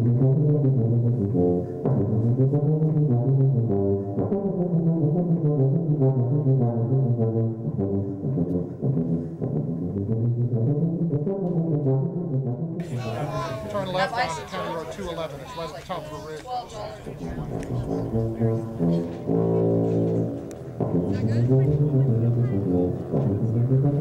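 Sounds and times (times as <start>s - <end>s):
brass instruments playing melody: 0.0s - 12.2s, 12.8s - 24.0s.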